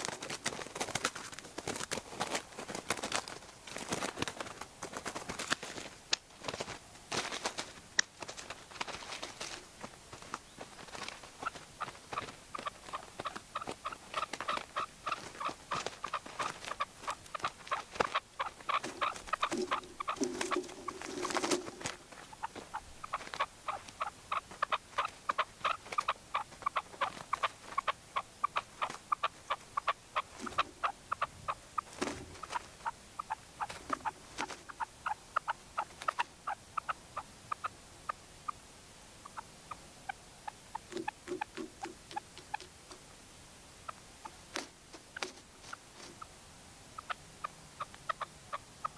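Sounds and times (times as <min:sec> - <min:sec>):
partridges clucking: 0:00.0 - 0:36.9, 0:40.5 - 0:43.0.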